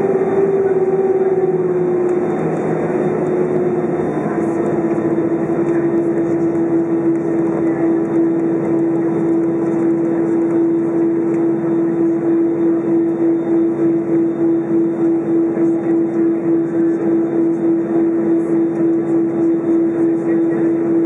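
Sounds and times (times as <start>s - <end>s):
jet engines humming in cabin: 0.0s - 21.0s
pulsing droning tone: 0.0s - 21.0s.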